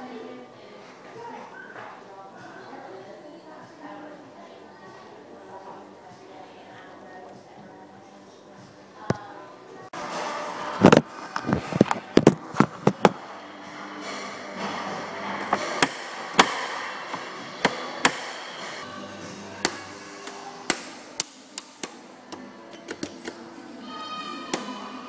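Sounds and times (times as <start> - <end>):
faint background music: 0.0 - 25.0.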